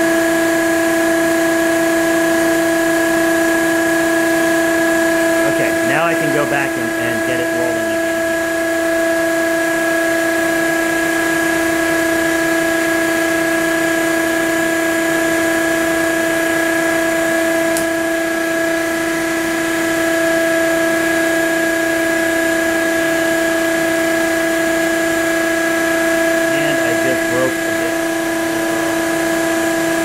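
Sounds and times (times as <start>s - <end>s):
dust extraction vacuum whine: 0.0s - 30.0s.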